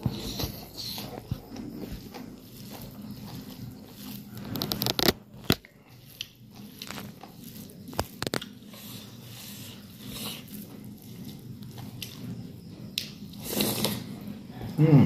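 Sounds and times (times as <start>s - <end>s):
chewing and biting: 0.0s - 14.5s
fingers mixing food on plate: 0.0s - 14.5s.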